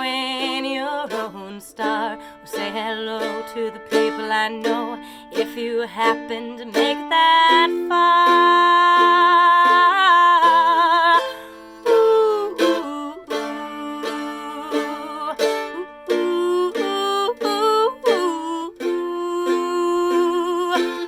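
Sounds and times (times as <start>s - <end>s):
acoustic mandolin playing: 0.0s - 21.0s
woman singing: 0.0s - 21.0s.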